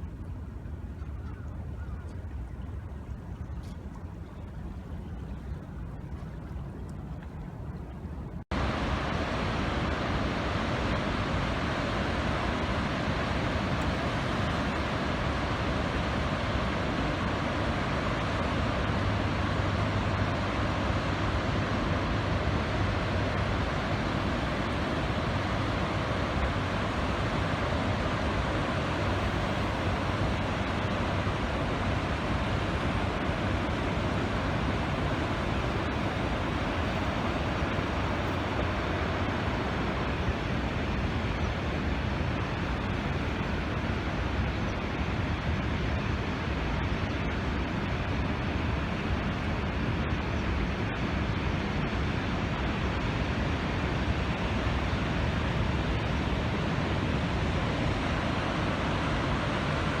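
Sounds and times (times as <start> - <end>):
wind blowing across microphone: 0.0 - 60.0
rough water rushing: 8.5 - 60.0.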